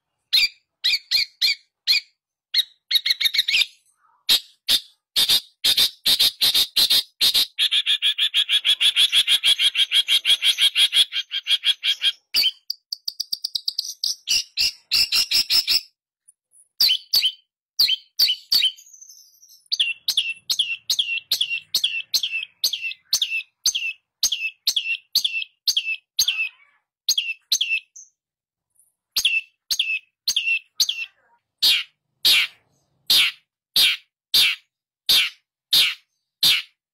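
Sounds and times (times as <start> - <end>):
bird chattering: 0.3 - 15.9, 19.7 - 28.0, 29.2 - 36.8.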